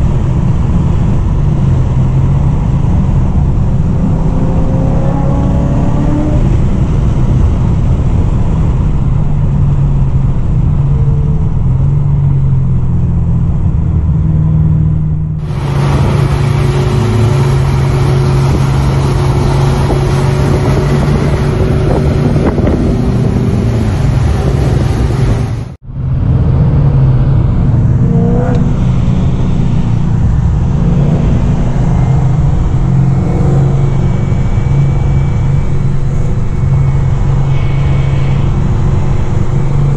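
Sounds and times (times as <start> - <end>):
car engine drone on race track: 0.0 - 39.9.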